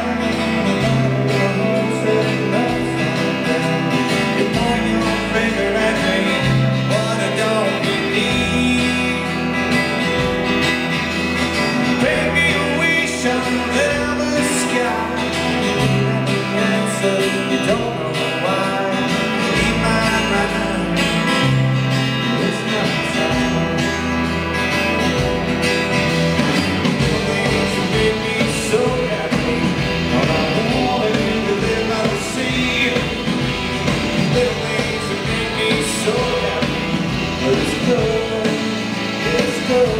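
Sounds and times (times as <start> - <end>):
bass notes: 0.0 - 39.9
electric guitars: 0.0 - 39.9
rock band playing live: 0.0 - 39.9.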